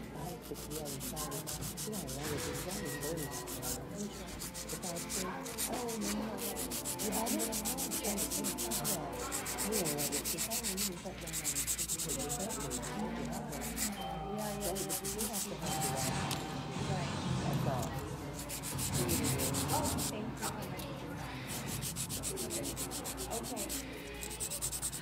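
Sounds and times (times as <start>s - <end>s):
nail file rasping: 0.3s - 16.4s, 18.4s - 20.1s, 21.5s - 25.0s.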